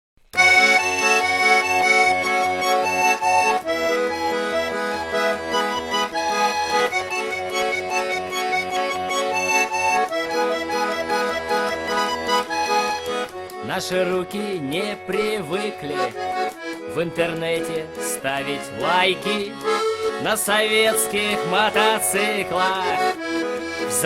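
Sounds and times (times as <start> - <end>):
accordion playing chords: 0.3 - 24.0.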